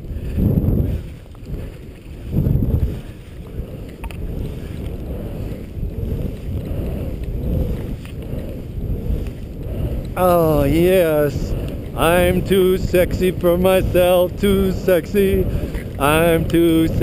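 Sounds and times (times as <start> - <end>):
skis running on snow: 0.0 - 17.0
wind rushing over microphone: 0.0 - 17.0.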